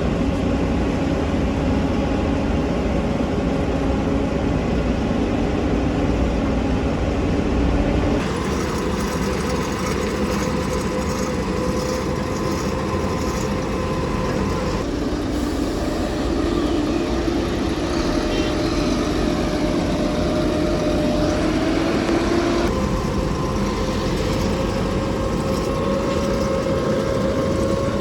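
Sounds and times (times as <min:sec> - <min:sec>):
vehicle engines running: 0:00.0 - 0:28.0.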